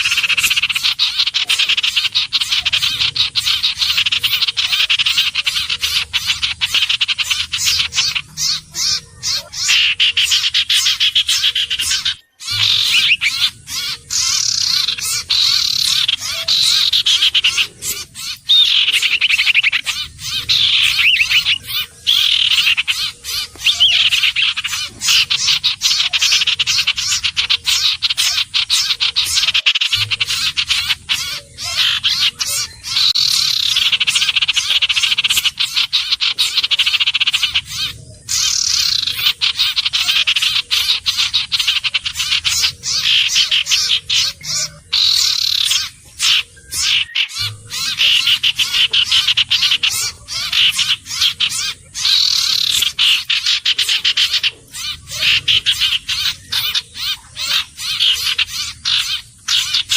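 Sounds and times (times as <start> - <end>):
bird calling with falling trills: 0.0 - 59.9.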